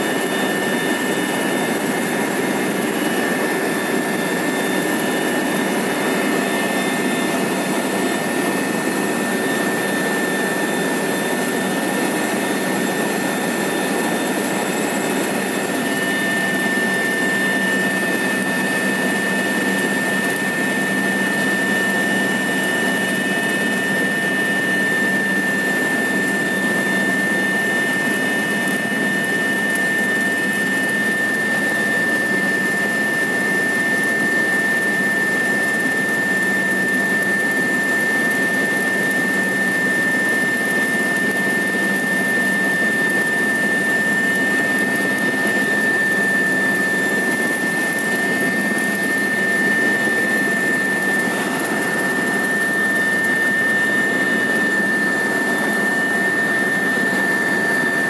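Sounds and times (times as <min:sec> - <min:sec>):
helicopter engine drone: 0:00.0 - 0:58.0.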